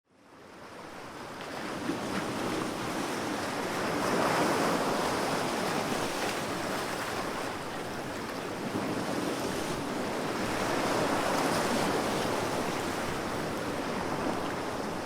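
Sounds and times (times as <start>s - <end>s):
sea waves breaking on shore: 0.5s - 15.0s.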